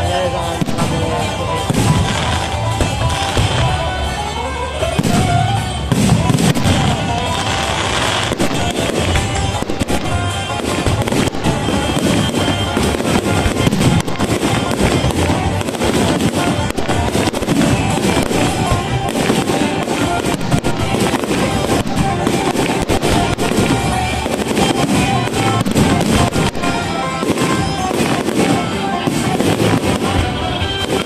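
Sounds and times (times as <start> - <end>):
fireworks bangs and crackling: 0.0 - 31.0
music playing: 0.0 - 31.0.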